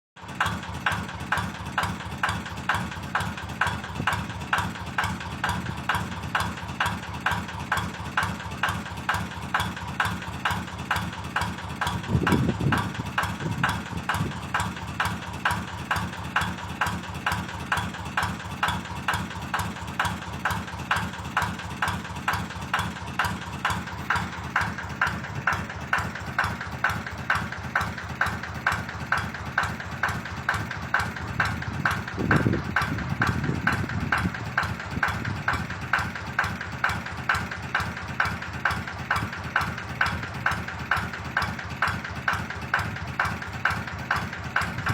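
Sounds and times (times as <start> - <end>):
tractor diesel engine idling: 0.2 - 44.9.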